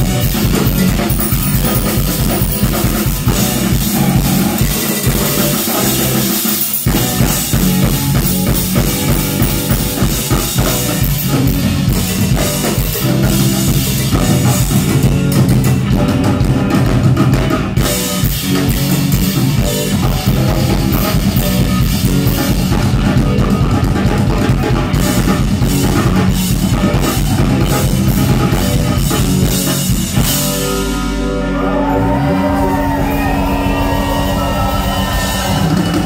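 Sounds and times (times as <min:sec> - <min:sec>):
sliding bass note: 0:00.0 - 0:06.3, 0:06.9 - 0:36.0
drum kit: 0:00.0 - 0:36.0
live rock band playing: 0:00.0 - 0:36.0.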